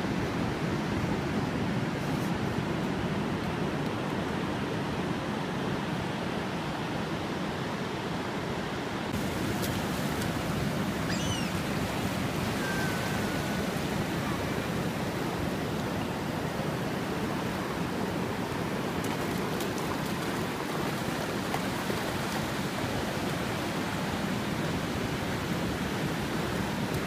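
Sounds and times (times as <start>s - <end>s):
small waves breaking on beach: 0.0s - 27.0s.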